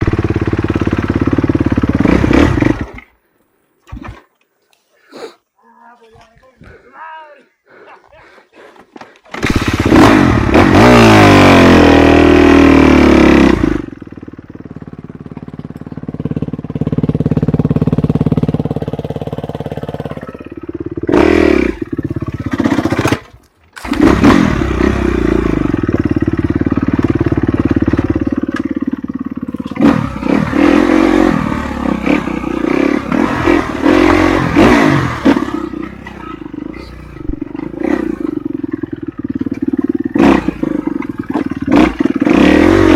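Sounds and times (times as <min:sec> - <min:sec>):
dirt bike engine revving: 0:00.0 - 0:03.1, 0:09.3 - 0:42.9.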